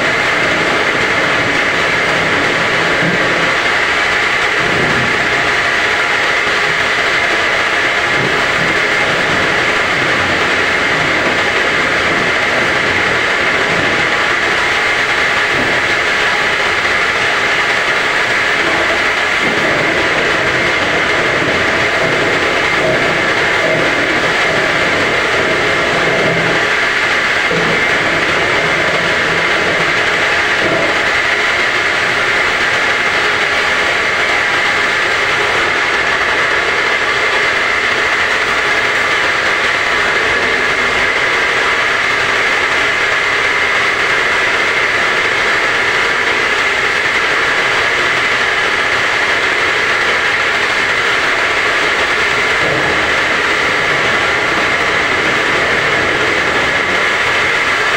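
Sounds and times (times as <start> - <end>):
washing machine running: 0.0 - 57.9.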